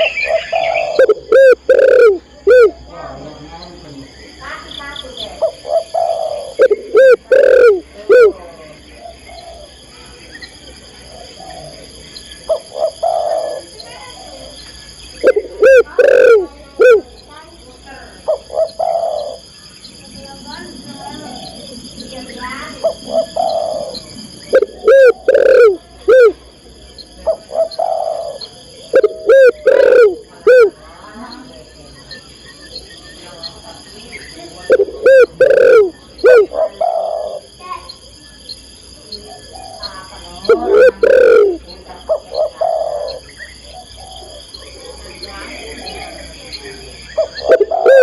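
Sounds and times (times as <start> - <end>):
dove cooing: 0.0 - 3.2, 4.7 - 17.2, 18.0 - 32.7, 33.8 - 48.0.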